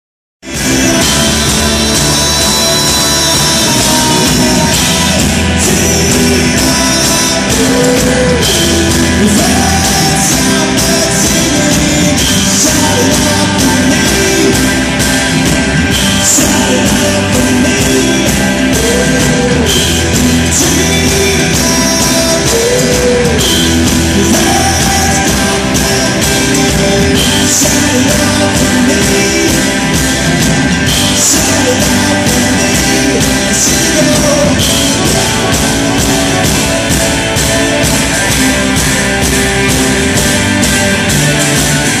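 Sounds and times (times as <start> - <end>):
man singing lead vocal: 0.4 - 40.3
live rock band playing: 0.4 - 42.0.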